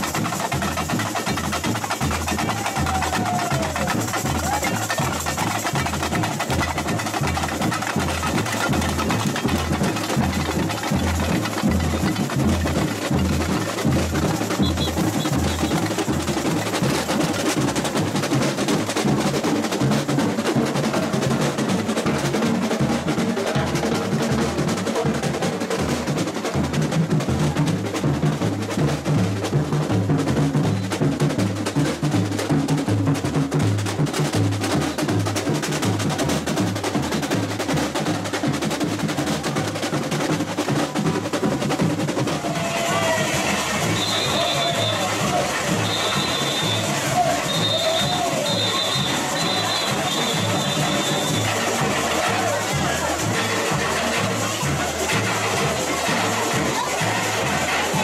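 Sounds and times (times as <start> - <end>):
deep bass drum beats: 0.0 - 58.0
drum section playing: 0.0 - 58.0
rapid snare drum strokes: 0.0 - 58.0.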